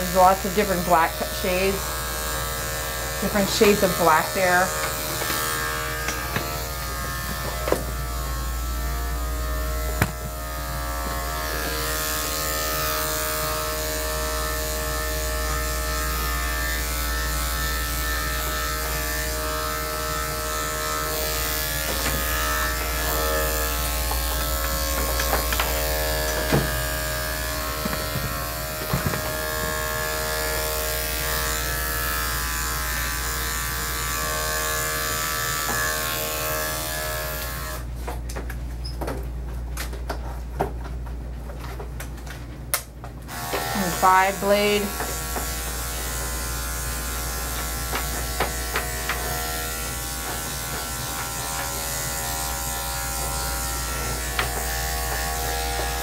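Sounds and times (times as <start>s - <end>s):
electric clippers humming: 0.0s - 38.6s, 42.8s - 56.0s.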